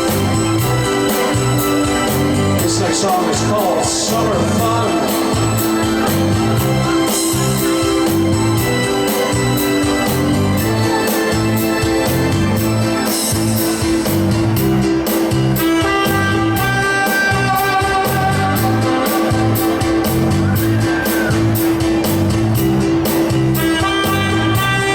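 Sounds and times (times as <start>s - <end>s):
live band playing instrumental: 0.0s - 24.9s.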